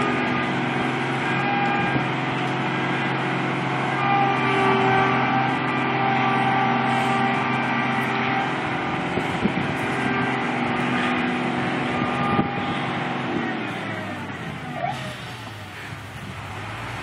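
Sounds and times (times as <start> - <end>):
farm machinery engine clattering: 0.0 - 17.0.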